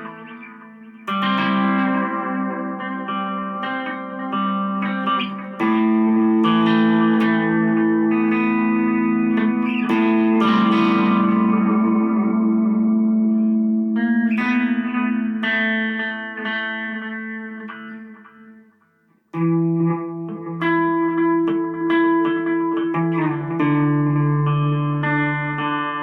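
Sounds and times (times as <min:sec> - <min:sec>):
instrumental music: 0:00.0 - 0:26.0.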